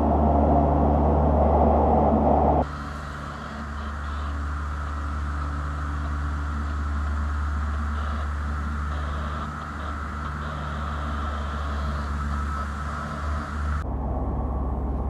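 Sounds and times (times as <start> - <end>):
loud rushing noise: 0.0 - 14.6
machinery hum with hiss: 0.0 - 15.0.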